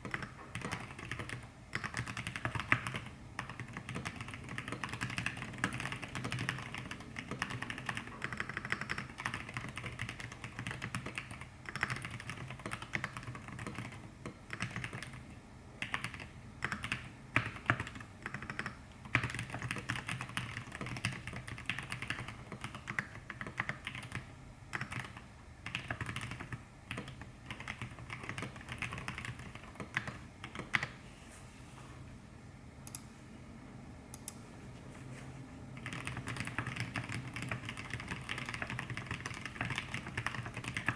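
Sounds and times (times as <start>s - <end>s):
mechanical keyboard typing: 0.0s - 15.2s, 15.8s - 30.9s, 35.8s - 40.9s.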